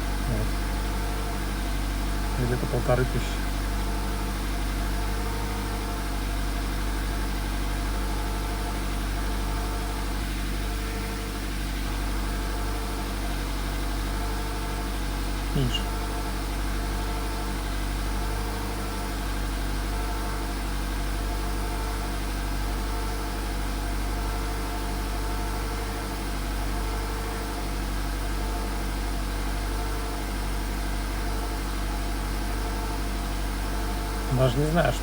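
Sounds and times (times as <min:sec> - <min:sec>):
car engine running steadily: 0:00.0 - 0:35.0.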